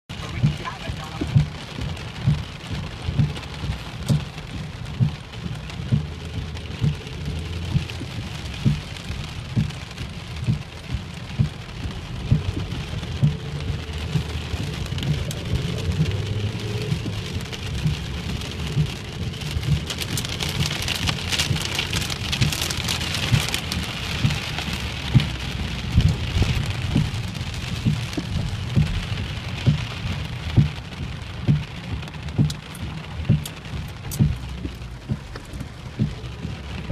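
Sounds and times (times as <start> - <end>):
heavy rain on car roof: 0.1 - 36.9.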